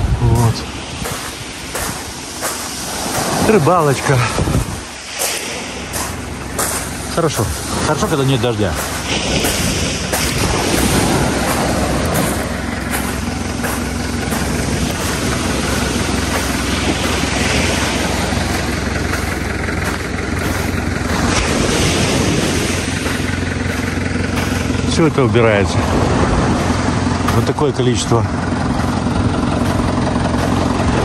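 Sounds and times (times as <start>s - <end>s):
surf washing on shore: 0.0s - 31.0s
tractor diesel engine running: 0.0s - 31.0s.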